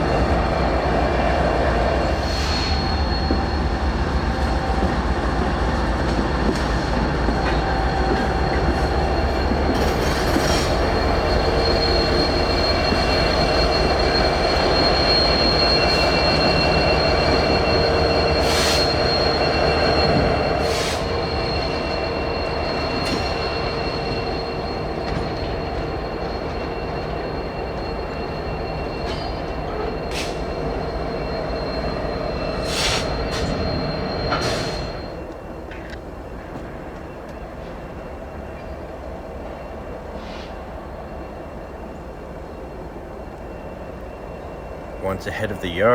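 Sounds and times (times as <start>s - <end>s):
train rumbling on rails: 0.0s - 45.9s
train wheels squealing: 0.0s - 45.9s.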